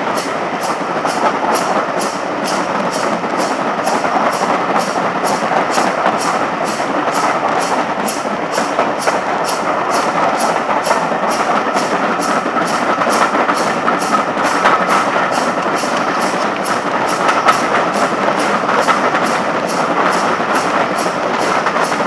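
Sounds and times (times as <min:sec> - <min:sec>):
coach wheels rumbling on rails: 0:00.0 - 0:22.0
steam locomotive exhaust beats: 0:00.0 - 0:22.0.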